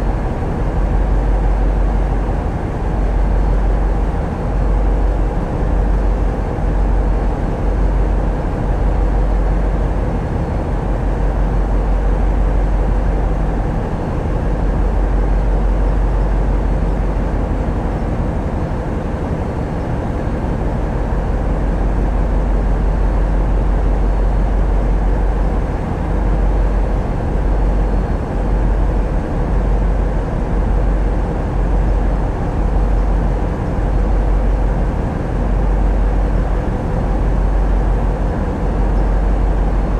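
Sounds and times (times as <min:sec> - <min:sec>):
boat diesel engines rumbling: 0:00.0 - 0:39.9.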